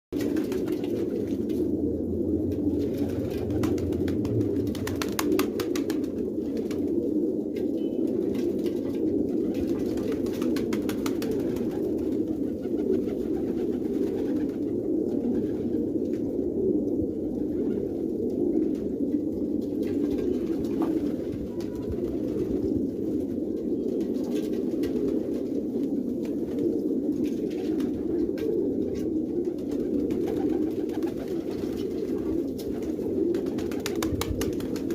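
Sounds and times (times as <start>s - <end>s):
pigeons cooing: 0.2s - 34.9s.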